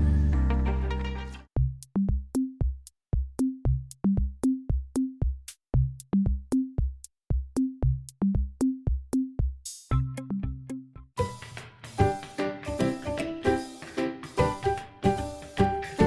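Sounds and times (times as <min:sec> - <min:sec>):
drum machine beat with deep bass: 0:01.6 - 0:16.0.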